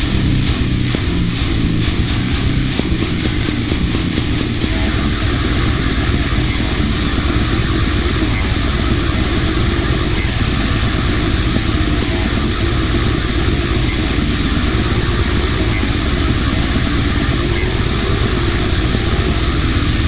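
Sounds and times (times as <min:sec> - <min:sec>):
distorted electric guitars: 0:00.0 - 0:20.0
drums: 0:00.0 - 0:20.0.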